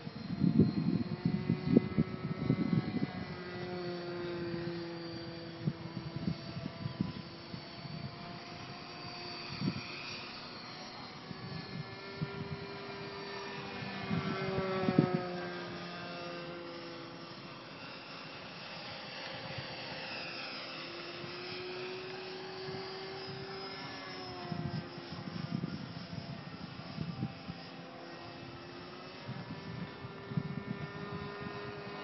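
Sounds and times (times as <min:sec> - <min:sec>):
model plane engine flying overhead: 0:00.0 - 0:32.0.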